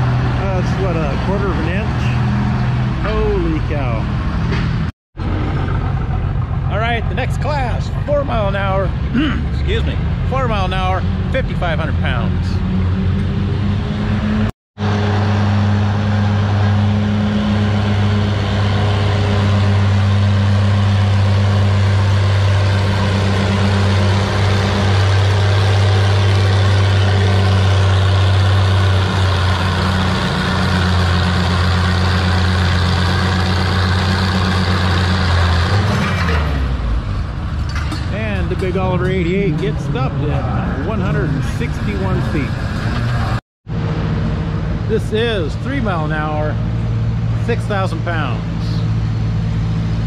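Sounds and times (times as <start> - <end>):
tractor engine at high revs: 0.0 - 8.3, 10.6 - 44.9.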